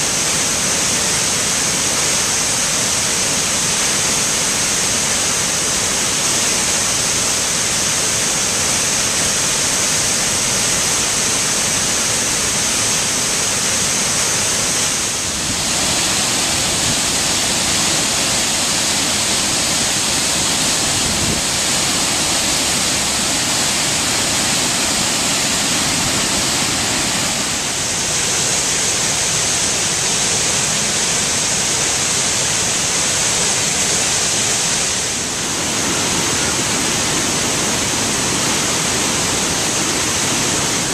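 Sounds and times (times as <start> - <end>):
water rushing over rock ledges: 0.0 - 40.9.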